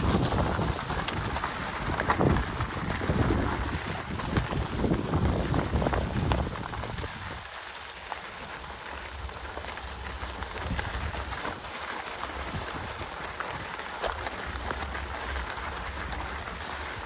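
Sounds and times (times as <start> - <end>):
wind buffeting microphone: 0.0 - 7.5, 9.1 - 17.0
bike tyres crackling on dirt: 0.0 - 17.0.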